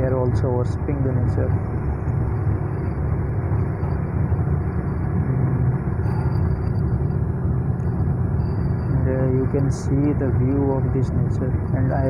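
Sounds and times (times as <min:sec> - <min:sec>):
vehicle travelling along road: 0:00.0 - 0:12.0.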